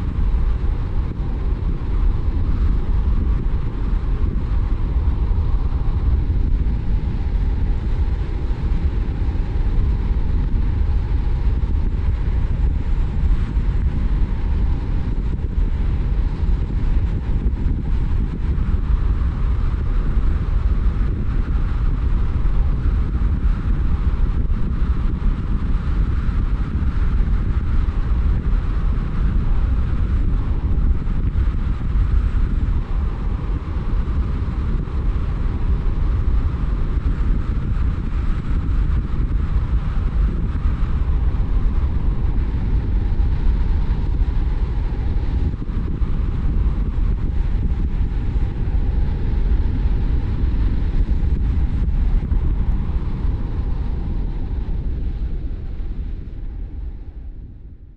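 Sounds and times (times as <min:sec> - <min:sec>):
car engine and tyre rumble: 0:00.0 - 0:57.8.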